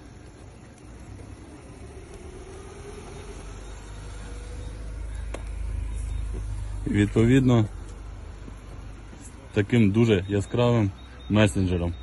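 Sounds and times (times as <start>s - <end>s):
faint hum: 0.0s - 12.0s
vehicle low rumble: 0.0s - 12.0s.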